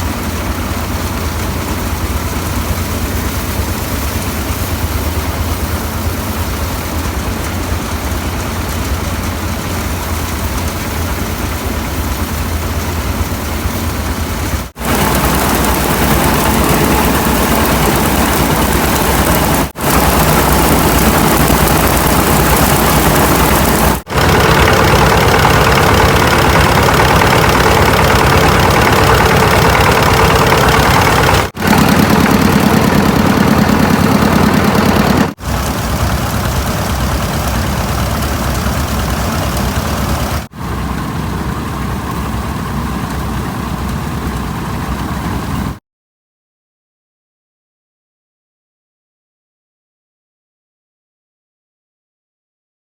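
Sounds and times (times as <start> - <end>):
engine-driven machine running: 0.0 - 45.8.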